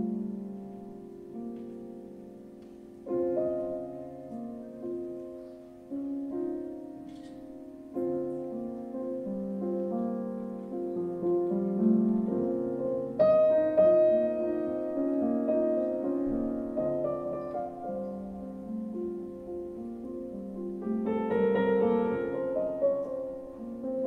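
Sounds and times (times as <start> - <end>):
slow jazz piano: 0.0 - 24.0.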